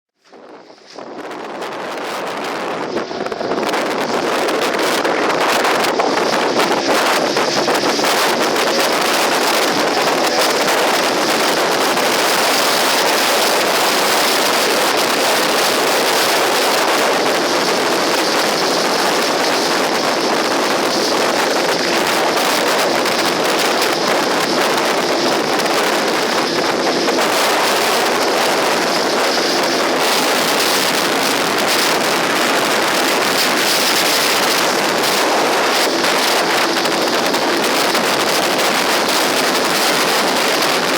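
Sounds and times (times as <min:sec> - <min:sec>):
water noise: 0:00.2 - 0:40.9
wind buffeting microphone: 0:00.2 - 0:40.9
outboard motor running: 0:00.4 - 0:40.9.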